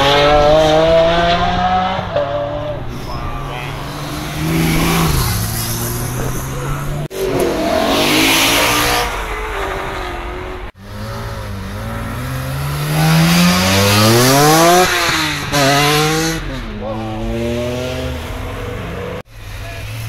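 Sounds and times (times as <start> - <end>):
car engines accelerating hard: 0.0 - 20.0.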